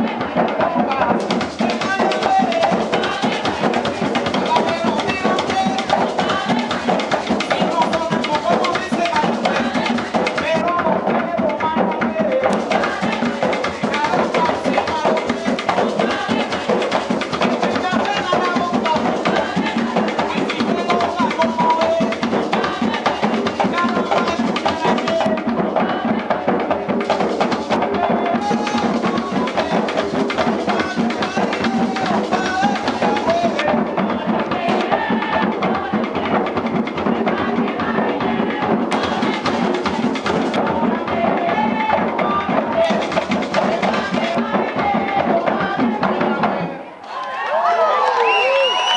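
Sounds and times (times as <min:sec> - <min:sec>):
drums playing a driving rhythm: 0:00.0 - 0:46.7.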